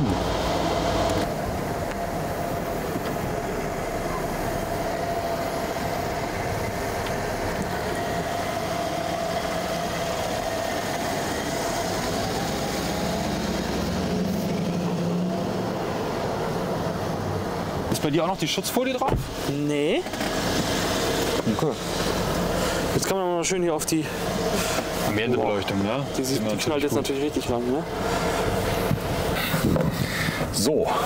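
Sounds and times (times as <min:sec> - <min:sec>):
car engine humming: 0:00.0 - 0:31.0.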